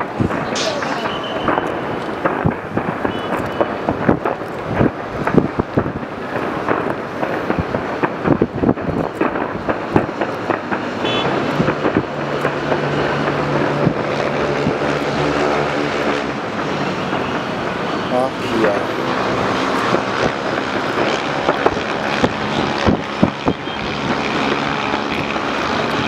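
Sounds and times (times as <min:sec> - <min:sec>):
low engine-like drone: 0:00.0 - 0:04.7, 0:09.1 - 0:26.0
fireworks bangs and crackles: 0:00.0 - 0:26.0.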